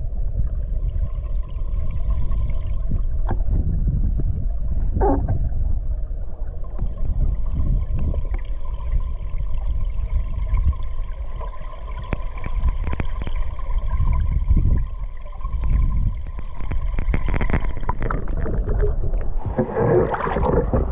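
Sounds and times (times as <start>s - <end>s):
stream water heard underwater: 0.0s - 20.9s.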